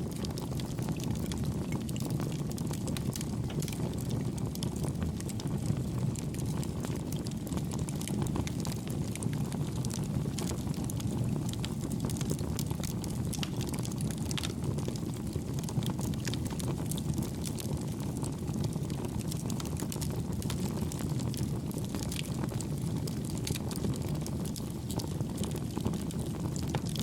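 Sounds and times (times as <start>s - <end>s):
low rush of flames: 0.0s - 27.0s
wood crackling and popping: 0.0s - 27.0s.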